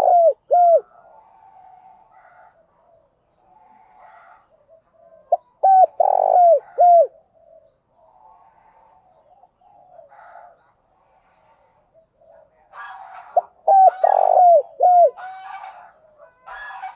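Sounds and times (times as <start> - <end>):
dove cooing: 0.0 - 10.6, 11.4 - 16.9.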